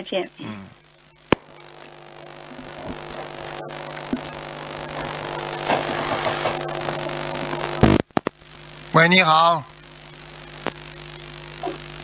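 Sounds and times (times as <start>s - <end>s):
electrical hum on telephone line: 0.0s - 12.0s
telephone line hiss: 0.0s - 12.0s.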